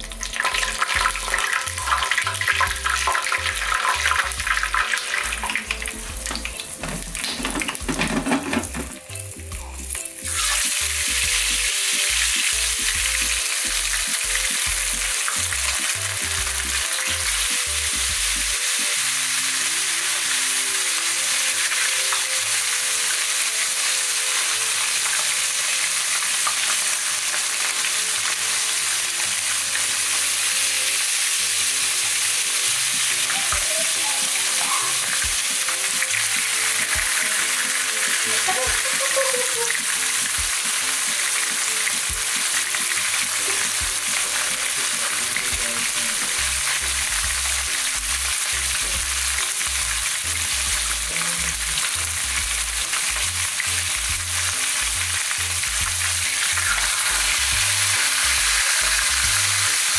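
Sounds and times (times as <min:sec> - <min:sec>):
oil crackling and spitting: 0:00.0 - 0:23.2, 0:34.5 - 0:59.9
fish frying in hot oil: 0:00.0 - 0:59.9.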